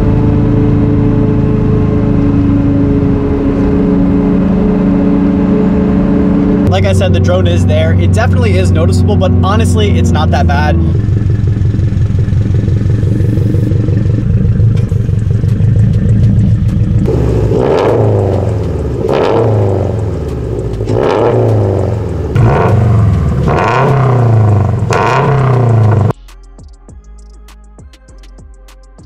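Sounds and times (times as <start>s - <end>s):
car engine revving: 0.0s - 26.2s.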